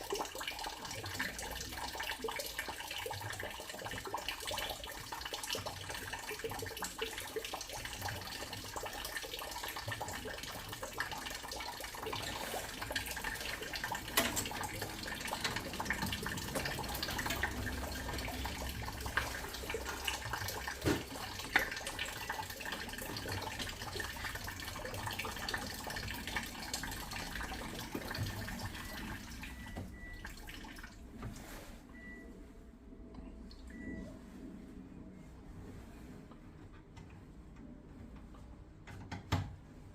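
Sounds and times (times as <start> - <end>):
water running: 0.0 - 32.1.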